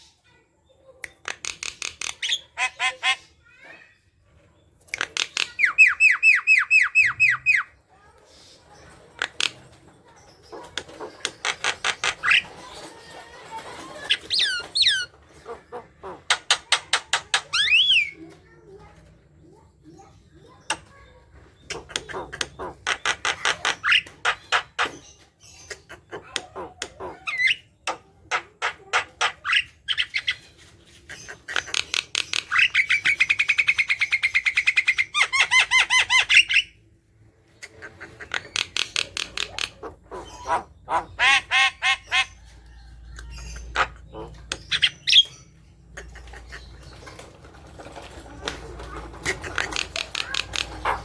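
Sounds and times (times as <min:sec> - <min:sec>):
bird chattering song: 0:00.8 - 0:03.4, 0:04.6 - 0:08.1, 0:08.8 - 0:13.1, 0:14.0 - 0:18.2, 0:19.5 - 0:51.0.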